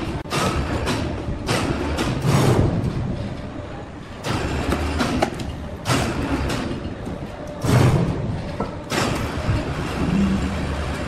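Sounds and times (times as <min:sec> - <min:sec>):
sawmill machinery rumbling and clattering: 0:00.0 - 0:11.0.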